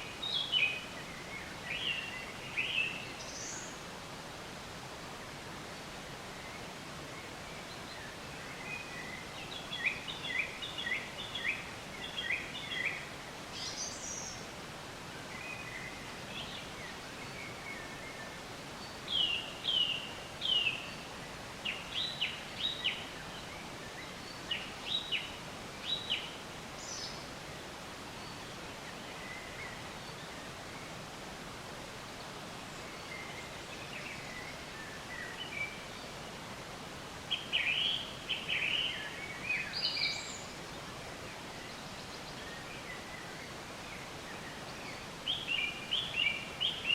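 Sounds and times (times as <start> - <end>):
outdoor background hiss: 0.0 - 46.9
songbirds chirping: 0.0 - 46.9.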